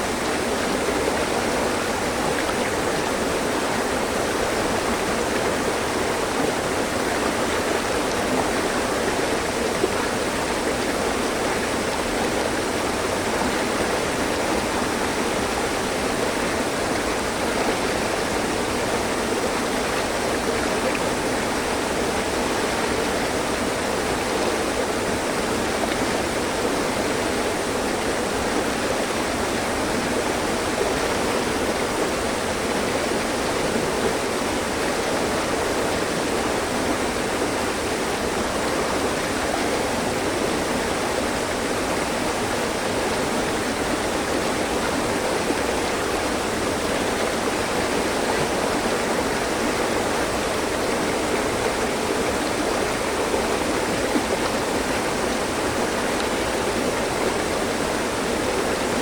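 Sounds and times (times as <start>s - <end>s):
water running over rocks: 0.0s - 59.0s.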